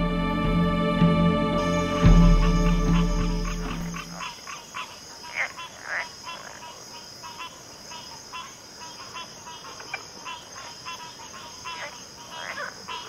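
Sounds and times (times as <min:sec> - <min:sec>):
high-pitched insect drone: 0:01.6 - 0:13.0
short insect chirping calls: 0:01.6 - 0:13.0.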